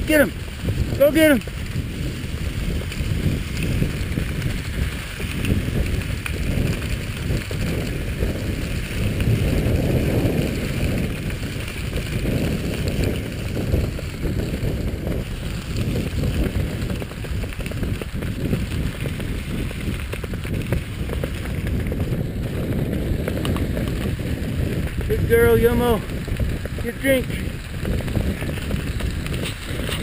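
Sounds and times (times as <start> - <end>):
skis hissing over snow: 0.0 - 30.0
wind buffeting microphone: 0.0 - 30.0.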